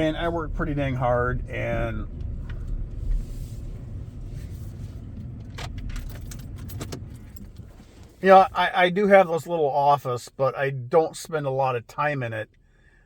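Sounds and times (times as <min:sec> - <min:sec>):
road rumble inside car: 0:00.0 - 0:13.0.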